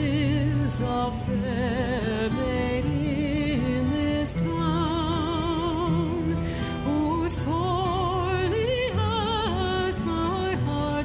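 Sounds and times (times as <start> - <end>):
slow tender melody with vibrato: 0.0 - 11.0.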